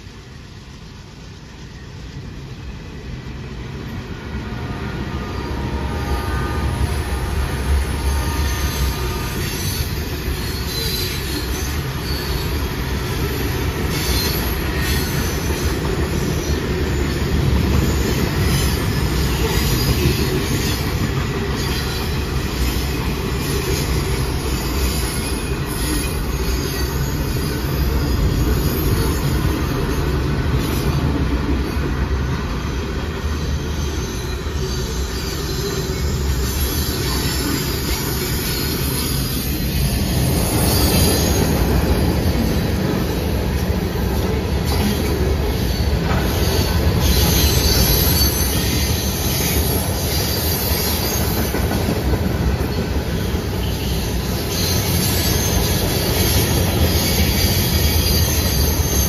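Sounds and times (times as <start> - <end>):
rumble of train wheels on rail: 0.0 - 59.0
wheels squealing: 4.7 - 59.0.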